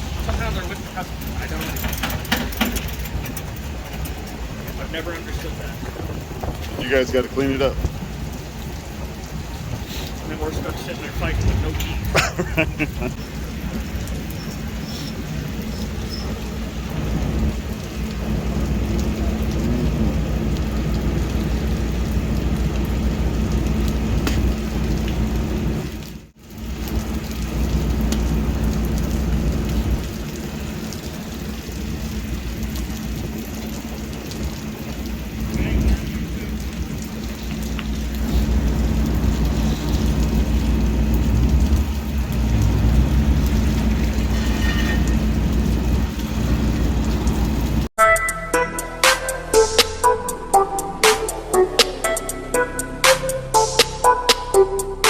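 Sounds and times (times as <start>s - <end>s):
low rumble: 0.0s - 14.4s, 16.4s - 47.9s
steady rain falling: 0.0s - 47.9s.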